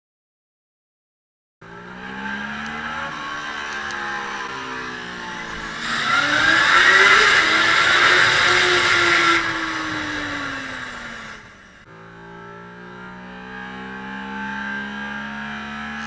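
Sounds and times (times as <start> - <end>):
motorcycle engine revving: 1.6 - 16.0.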